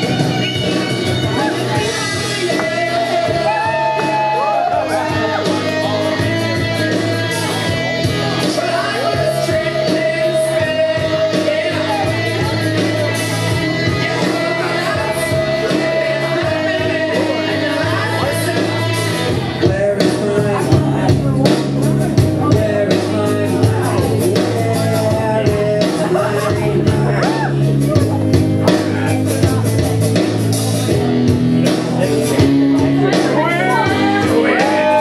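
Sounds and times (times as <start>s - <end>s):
rock and roll music with singing: 0.0s - 35.0s.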